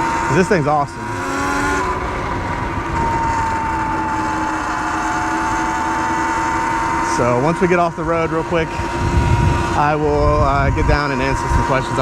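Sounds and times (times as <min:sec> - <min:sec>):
electric motor whining: 0:00.0 - 0:12.0
wind and road noise: 0:00.0 - 0:12.0.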